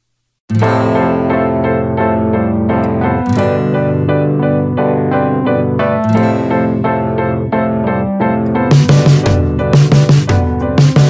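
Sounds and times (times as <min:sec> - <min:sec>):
piano-like keyboard music: 0:00.5 - 0:11.0.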